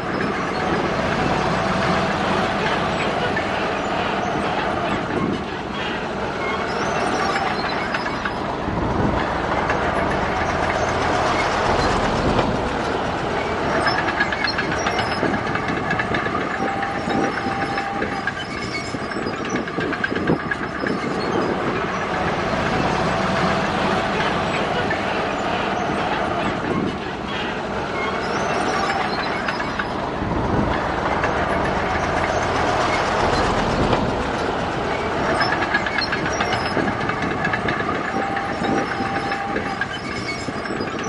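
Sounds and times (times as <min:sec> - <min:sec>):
diesel engine running: 0:00.0 - 0:41.0
steel tracks clanking and squealing: 0:00.0 - 0:41.0.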